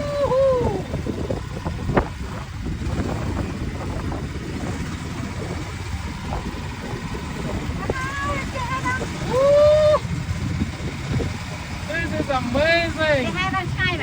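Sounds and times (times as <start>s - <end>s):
motorboat engine rumbling: 0.0s - 14.0s.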